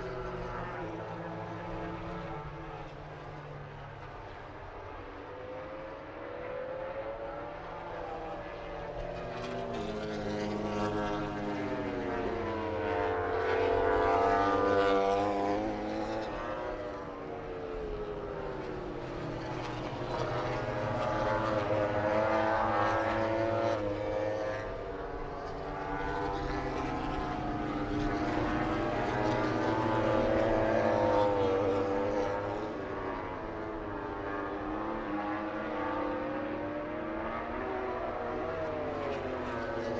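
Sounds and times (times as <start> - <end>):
racing motorcycle engines passing: 0.0 - 39.9.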